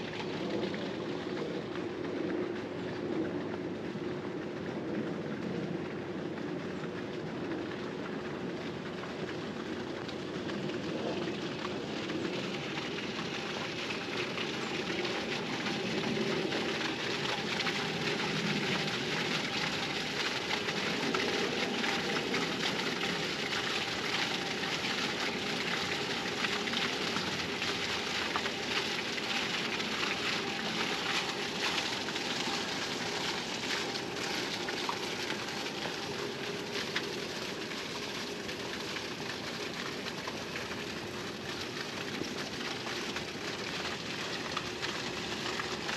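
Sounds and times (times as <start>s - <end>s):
water splashing into fountain pool: 0.0s - 45.9s.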